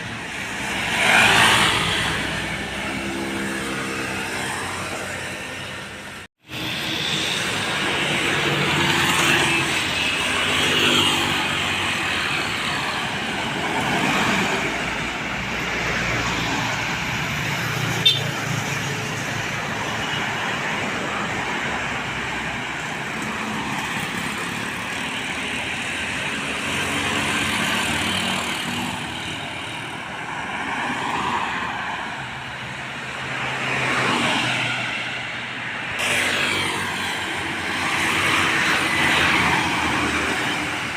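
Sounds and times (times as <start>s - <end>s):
trucks and vehicles passing: 0.0s - 40.9s.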